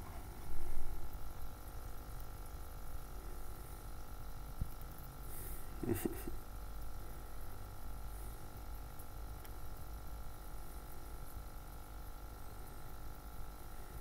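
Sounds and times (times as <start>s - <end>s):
faint constant whine: 0.0s - 14.0s
steady mechanical hum: 0.0s - 14.0s.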